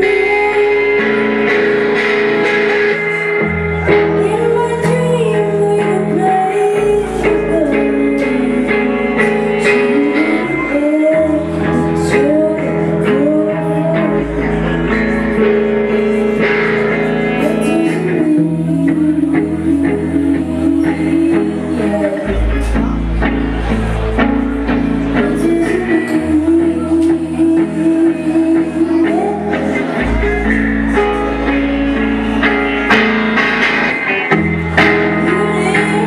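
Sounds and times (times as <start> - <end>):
person singing: 0.0 - 36.0
rock band playing: 0.0 - 36.0.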